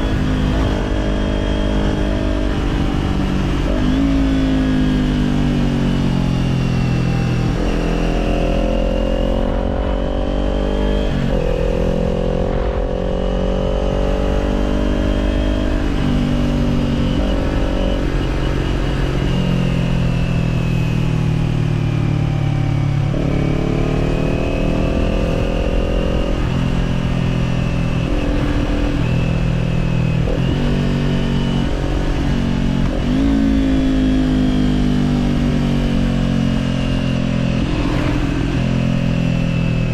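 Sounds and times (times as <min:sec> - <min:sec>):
motorcycle engine revving: 0:00.0 - 0:21.6, 0:22.7 - 0:39.9.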